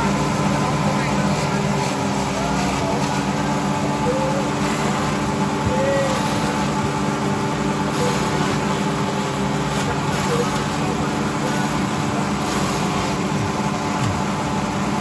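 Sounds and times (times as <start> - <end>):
grass choppers humming: 0.0 - 15.0.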